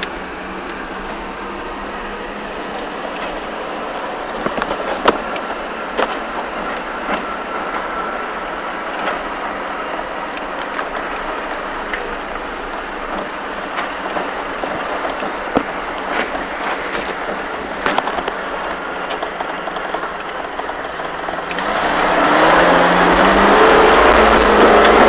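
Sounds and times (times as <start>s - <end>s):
tyres crunching over gravel: 0.0s - 25.0s.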